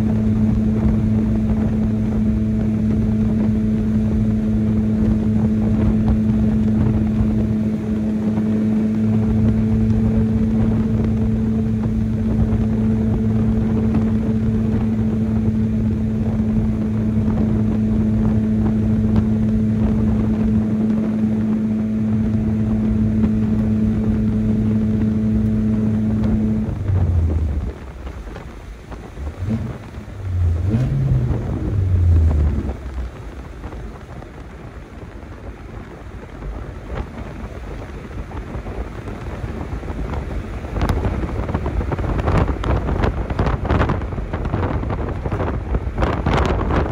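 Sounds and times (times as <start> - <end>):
pickup engine droning: 0.0 - 46.9.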